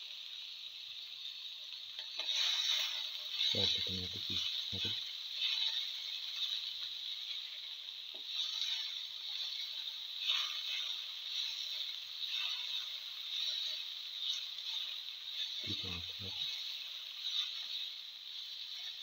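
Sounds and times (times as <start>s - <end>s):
food sizzling in oil: 0.0s - 19.0s
spatula scraping a pan: 2.0s - 19.0s.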